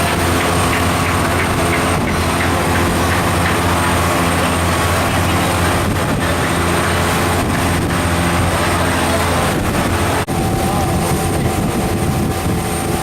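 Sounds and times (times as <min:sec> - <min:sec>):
boat engine running: 0:00.0 - 0:13.0
rushing water: 0:00.0 - 0:13.0
wind: 0:00.0 - 0:13.0.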